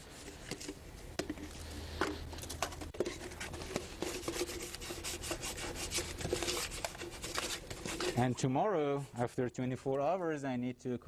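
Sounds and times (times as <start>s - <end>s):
hand rubbing plastic molds: 0.0s - 9.3s.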